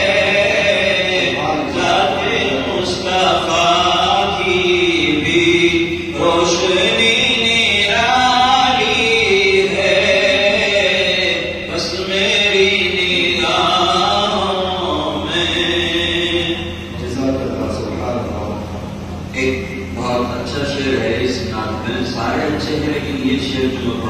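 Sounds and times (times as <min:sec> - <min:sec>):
man chanting devotional song: 0:00.0 - 0:24.0.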